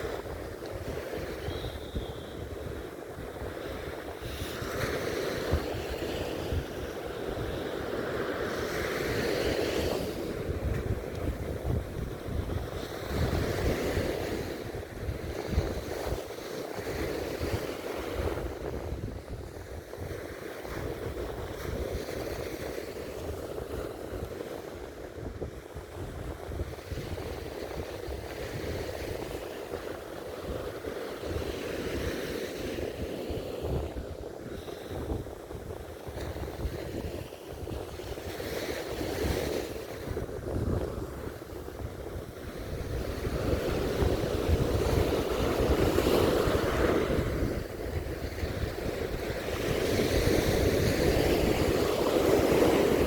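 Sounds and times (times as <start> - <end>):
surf washing onto beach: 0.0 - 53.0
wind buffeting microphone: 0.0 - 53.0.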